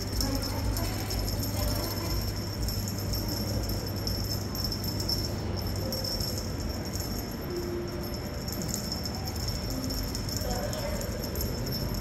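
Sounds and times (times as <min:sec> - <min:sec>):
room hum: 0:00.0 - 0:12.0
small bell jingling: 0:00.0 - 0:12.0.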